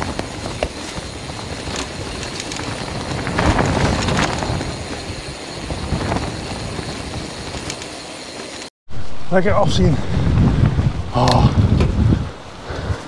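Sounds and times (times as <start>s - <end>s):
wind buffeting microphone: 0.0s - 8.0s, 9.4s - 13.0s.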